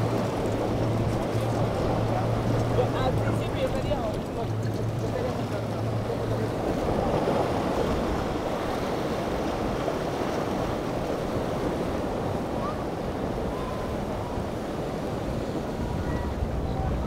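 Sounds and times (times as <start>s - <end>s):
surf washing and breaking: 0.0s - 17.0s
wind buffeting microphone: 0.0s - 17.0s.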